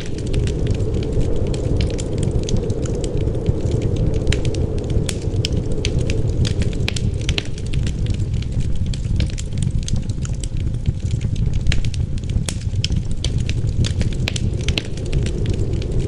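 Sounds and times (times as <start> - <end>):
low rumble of wind: 0.0 - 16.0
wood fire crackling and popping: 0.0 - 16.0.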